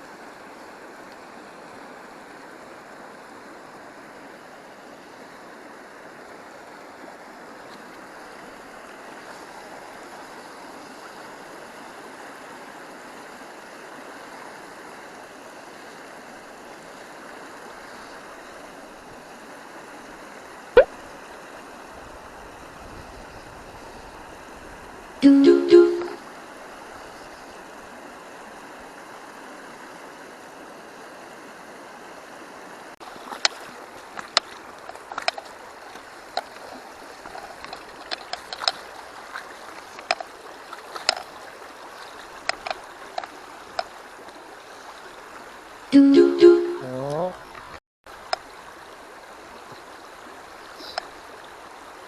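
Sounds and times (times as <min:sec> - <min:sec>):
stream water running: 0:00.0 - 0:52.0.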